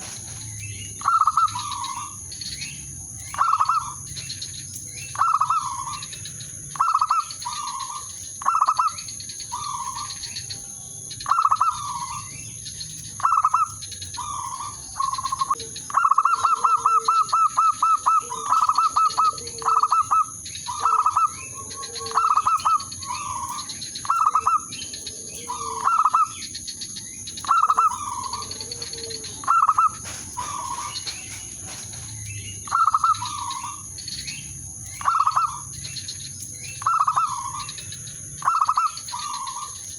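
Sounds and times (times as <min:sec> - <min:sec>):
doves cooing: 0:00.0 - 0:10.6, 0:11.2 - 0:39.9.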